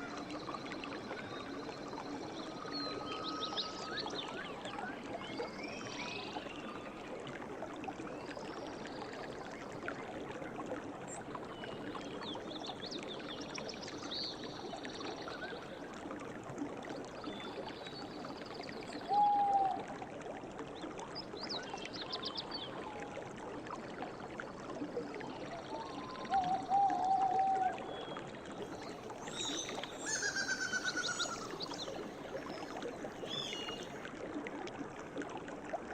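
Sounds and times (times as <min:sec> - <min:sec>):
river water running: 0:00.0 - 0:35.9.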